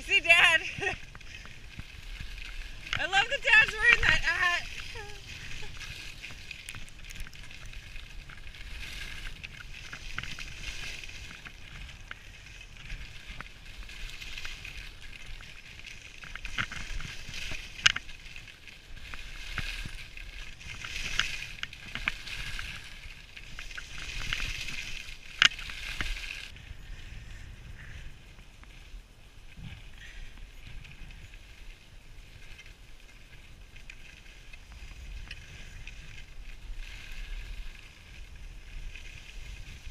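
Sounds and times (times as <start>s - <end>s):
skis scraping over snow: 0.0s - 39.9s
wind rumble on microphone: 0.0s - 39.9s.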